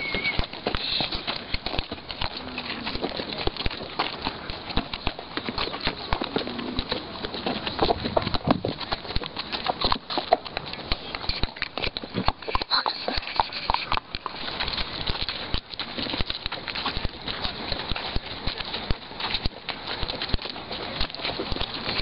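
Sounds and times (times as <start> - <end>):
horse hooves clopping on stony ground: 0.0 - 22.0.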